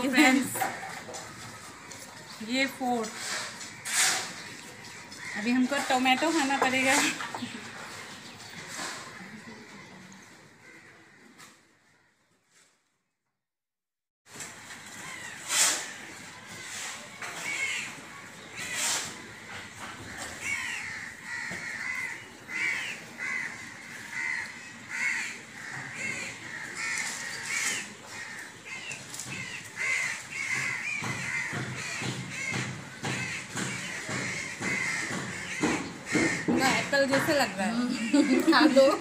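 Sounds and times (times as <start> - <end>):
crows cawing: 0.6 - 2.4, 3.1 - 12.7, 14.4 - 38.8.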